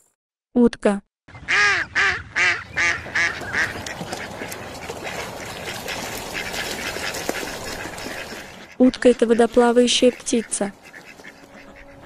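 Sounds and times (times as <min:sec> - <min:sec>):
duck quacking: 0:01.4 - 0:12.0.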